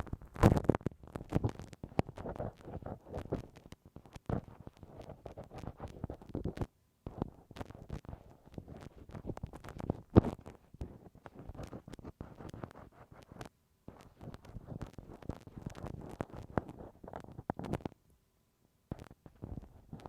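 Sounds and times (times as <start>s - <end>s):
ear pick scraping in ear: 0.0s - 17.9s.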